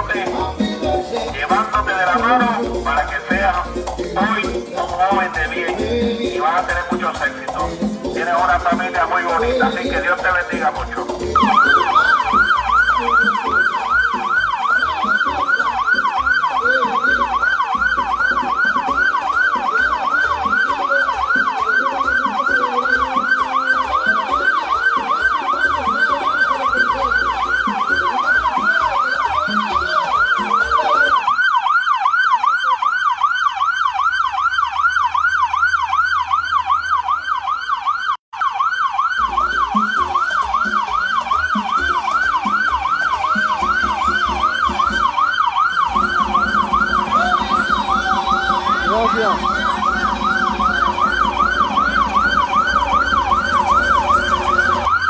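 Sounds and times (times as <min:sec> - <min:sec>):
siren yelping: 0:00.0 - 0:55.0.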